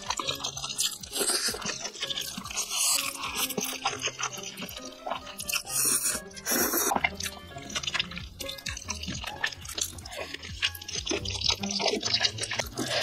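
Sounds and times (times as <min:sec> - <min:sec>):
background music: 0:00.0 - 0:13.0
noodles being slurped: 0:00.0 - 0:13.0
wet chewing: 0:00.0 - 0:13.0.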